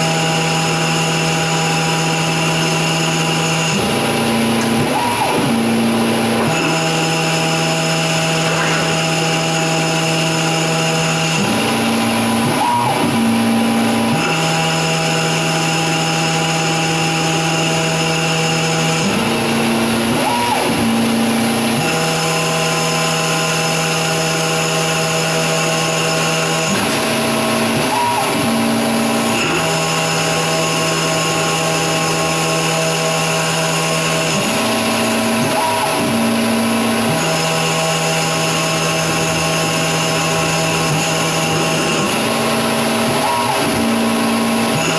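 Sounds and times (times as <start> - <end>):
lathe machine whine: 0.0 - 44.9.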